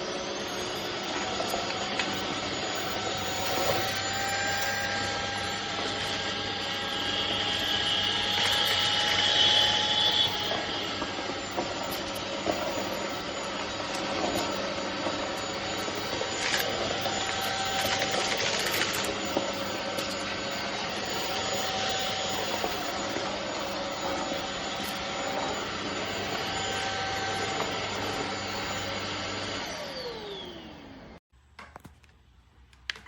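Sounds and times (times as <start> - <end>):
stick vacuum running over carpet: 0.0 - 31.2.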